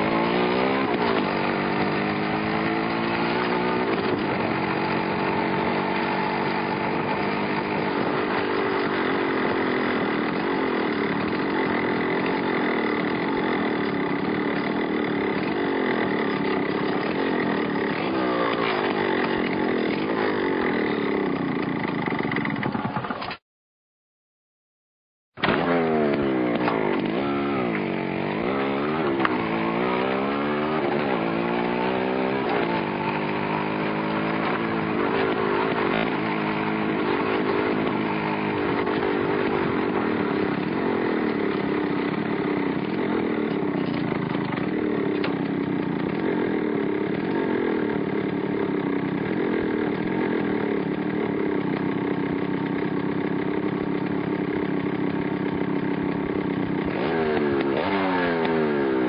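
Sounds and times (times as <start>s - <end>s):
motorcycle engine running: 0.0s - 23.4s, 25.4s - 59.0s.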